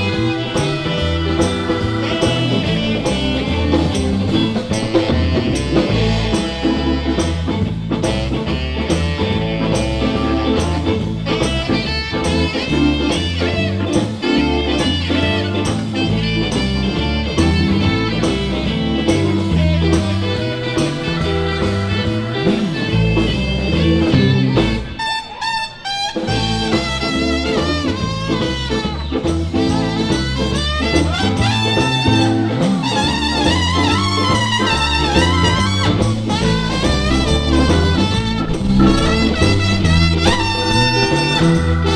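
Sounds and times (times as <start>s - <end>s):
drum kit beat: 0.0s - 25.4s, 26.2s - 41.9s
blues band playing: 0.0s - 41.9s
electric guitar: 0.0s - 41.9s.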